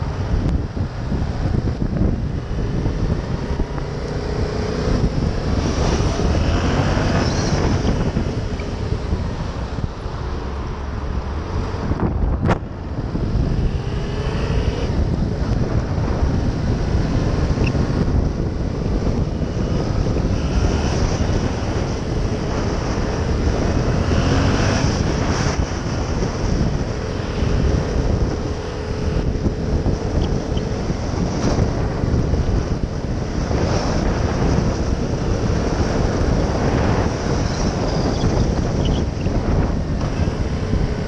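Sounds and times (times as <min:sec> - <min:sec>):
motorcycle engine: 0:00.0 - 0:41.0
wind buffeting microphone: 0:00.0 - 0:41.0.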